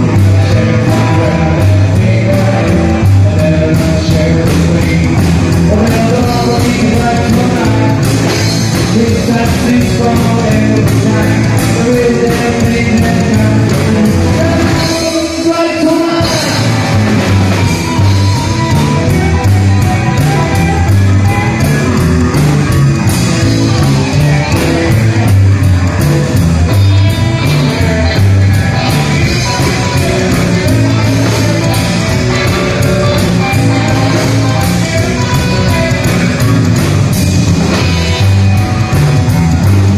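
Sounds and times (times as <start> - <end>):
rock and roll band playing: 0.0 - 39.9
upright double bass: 0.0 - 39.9.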